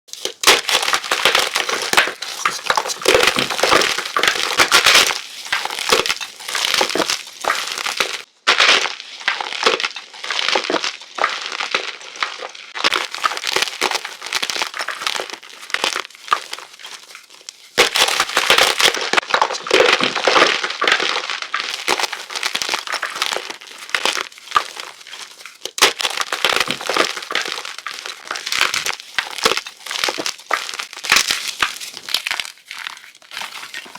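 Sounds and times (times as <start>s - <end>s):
chalk block crunching and crumbling: 0.1s - 33.9s.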